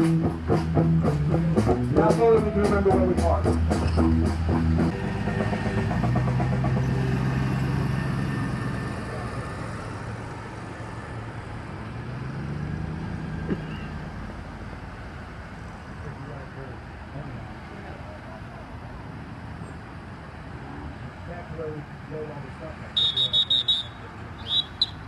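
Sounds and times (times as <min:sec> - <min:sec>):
car engines humming: 0:00.0 - 0:25.0.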